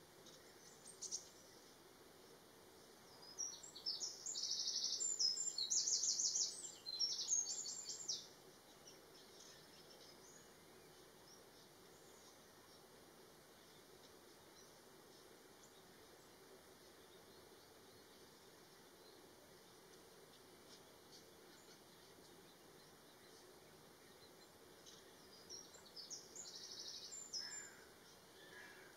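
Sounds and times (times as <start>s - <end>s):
faint outdoor background hiss: 0.0s - 28.9s
songbird chirping: 0.0s - 28.9s.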